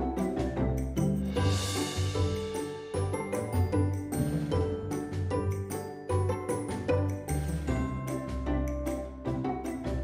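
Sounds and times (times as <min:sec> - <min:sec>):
light tune with bass and beat: 0:00.0 - 0:10.0.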